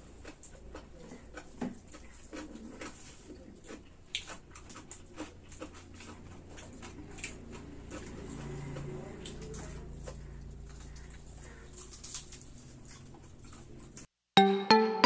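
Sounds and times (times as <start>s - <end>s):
people eating by hand: 0.0s - 14.1s.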